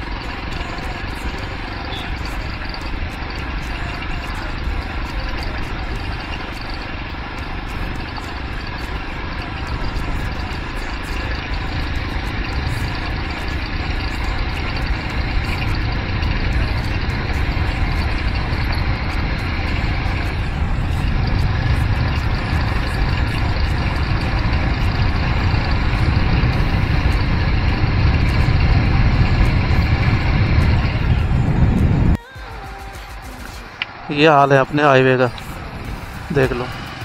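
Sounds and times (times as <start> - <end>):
wind rushing on microphone: 0.0 - 32.2
motorcycle engine: 0.0 - 37.0.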